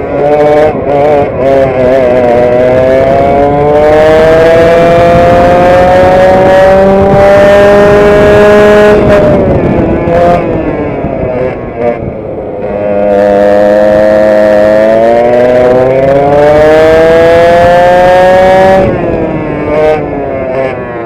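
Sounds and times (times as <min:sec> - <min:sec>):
kart engine revving: 0:00.0 - 0:21.0.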